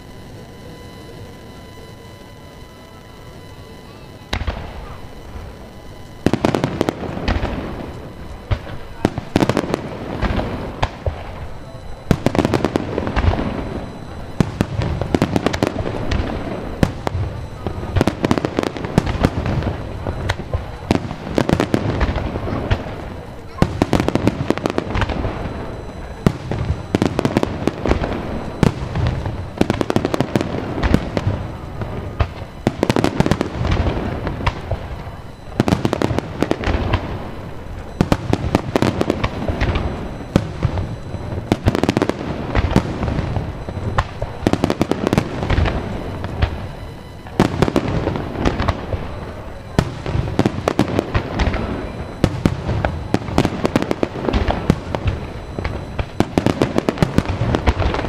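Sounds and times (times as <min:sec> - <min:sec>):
dense firework crackling: 0:00.0 - 0:58.0
firework booms: 0:00.0 - 0:58.0.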